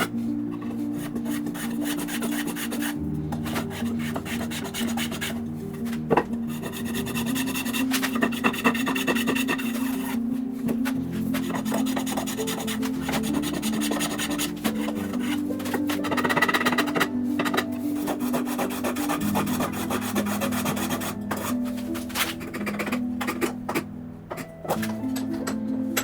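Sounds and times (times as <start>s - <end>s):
background music with low notes: 0.0s - 26.0s
plane blade scraping wood: 0.0s - 26.0s.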